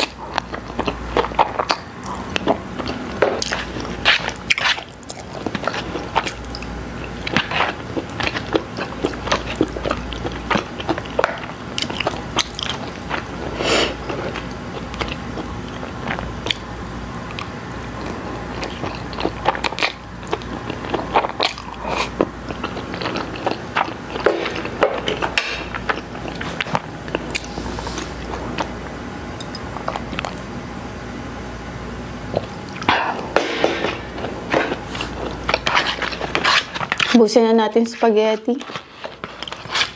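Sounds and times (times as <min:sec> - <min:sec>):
person chewing wetly: 0:00.0 - 0:30.5, 0:32.3 - 0:37.2, 0:38.6 - 0:39.9.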